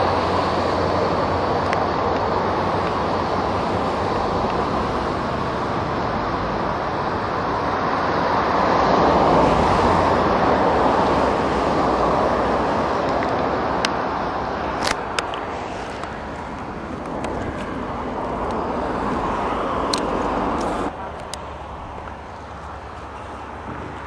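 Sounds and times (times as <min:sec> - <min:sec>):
propeller plane engine: 0:00.0 - 0:24.0.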